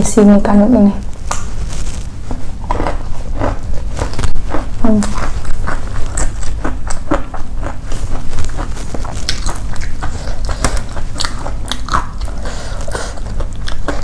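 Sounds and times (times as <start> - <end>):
person chewing with crunching: 1.0 - 14.0.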